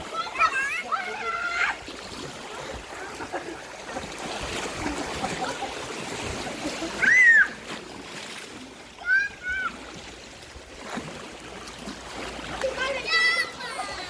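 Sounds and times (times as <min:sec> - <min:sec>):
sea water lapping at shore: 0:00.0 - 0:14.0.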